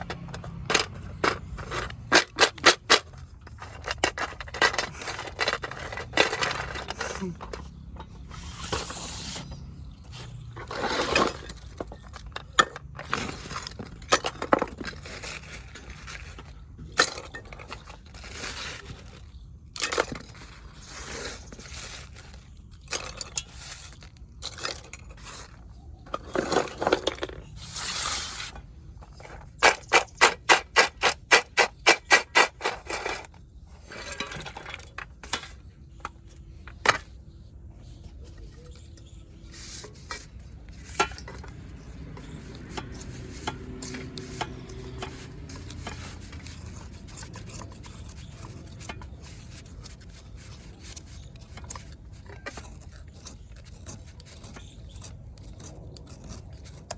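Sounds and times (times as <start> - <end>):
clay cups crunching: 0.0 - 8.9, 9.5 - 56.9.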